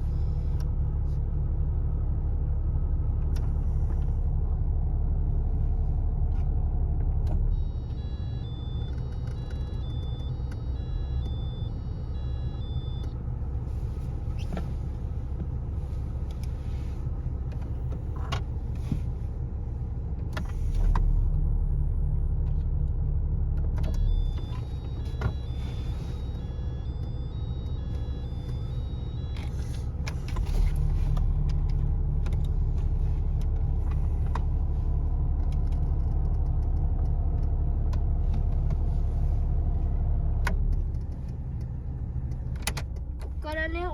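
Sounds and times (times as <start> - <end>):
van engine idling: 0.0 - 43.9.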